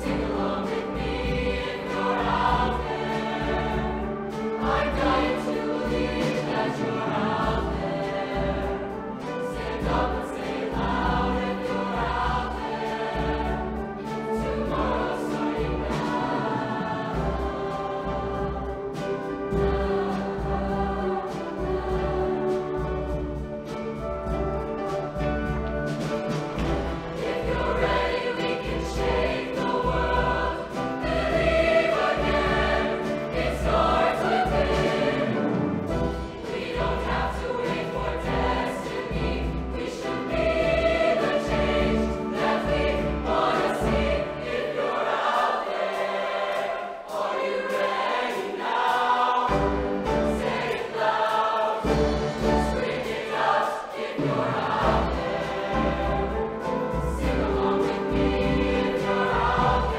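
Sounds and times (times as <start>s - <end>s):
choir singing in harmony: 0.0s - 59.9s
live backing band: 0.0s - 59.9s.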